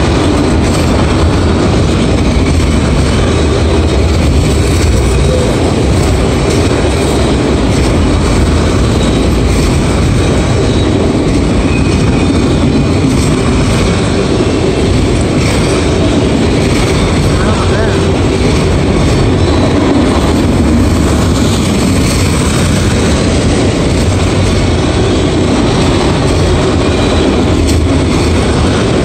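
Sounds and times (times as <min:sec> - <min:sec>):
freight cars rumbling and rattling: 0:00.0 - 0:29.0.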